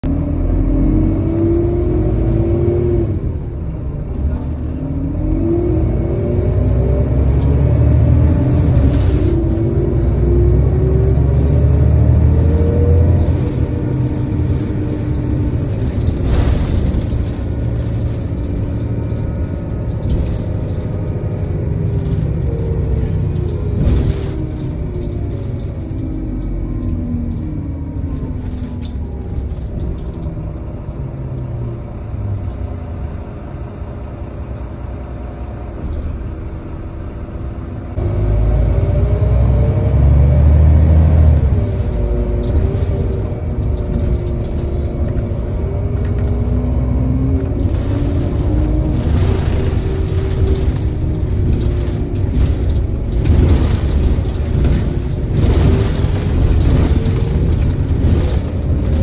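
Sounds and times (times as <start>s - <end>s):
bus engine accelerating: 0.0s - 59.0s.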